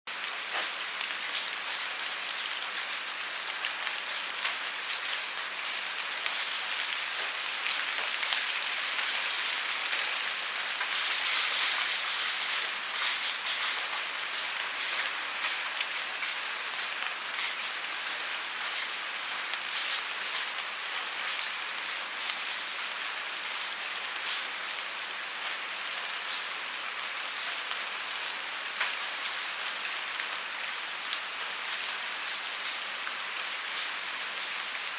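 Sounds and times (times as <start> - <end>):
steady rain pattering: 0.1 - 34.9.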